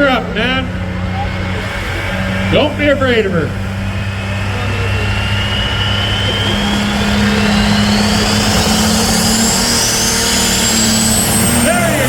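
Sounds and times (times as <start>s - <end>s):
diesel engine at full throttle: 0.0s - 12.0s
turbo whine: 0.0s - 12.0s.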